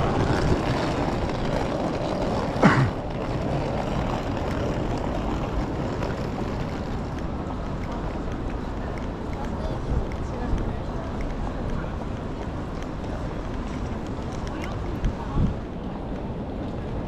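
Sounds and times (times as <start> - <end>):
traffic on wet street: 0.0 - 17.0.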